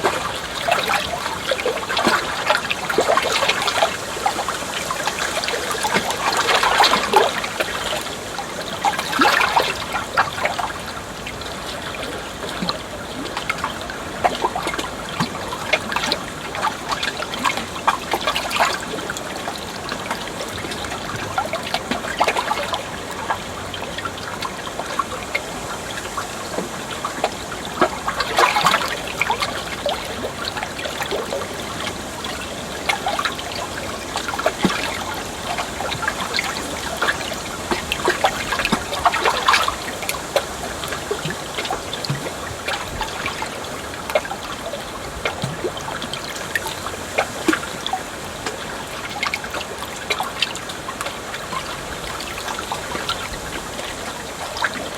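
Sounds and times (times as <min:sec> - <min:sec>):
small water splashes: 0:00.0 - 0:54.9
water flowing and trickling: 0:00.0 - 0:54.9.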